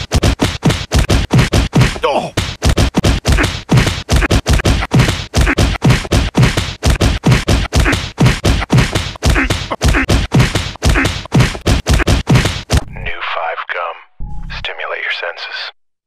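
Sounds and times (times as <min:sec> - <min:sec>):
fast pounding percussive beat: 0:00.0 - 0:13.0.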